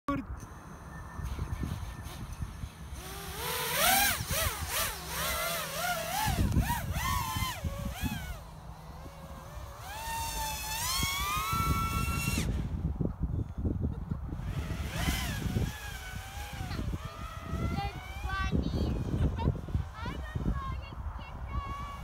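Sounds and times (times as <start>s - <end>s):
drone motors whining: 0.3s - 22.0s.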